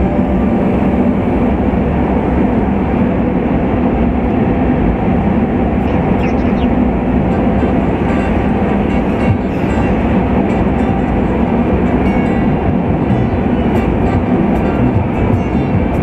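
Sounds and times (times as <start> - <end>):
road and tyre rumble inside car: 0.0 - 16.0.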